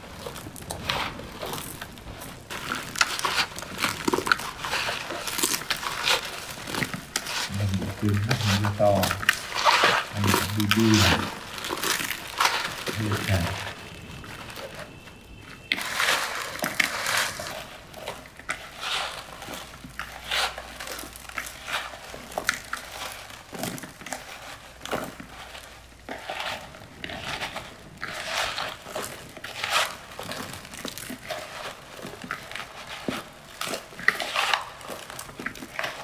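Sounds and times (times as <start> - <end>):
crinkling and rustling: 0.0 - 36.0.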